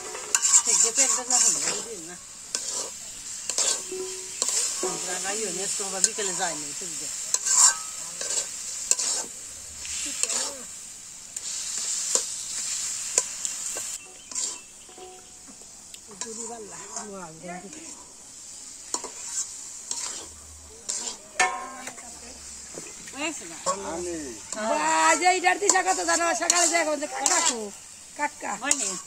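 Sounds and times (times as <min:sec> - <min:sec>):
spatula scraping metal pan: 0:00.0 - 0:10.7, 0:13.2 - 0:15.4, 0:16.1 - 0:18.2, 0:18.8 - 0:27.8, 0:28.5 - 0:29.0
hot oil sizzling: 0:00.0 - 0:29.0.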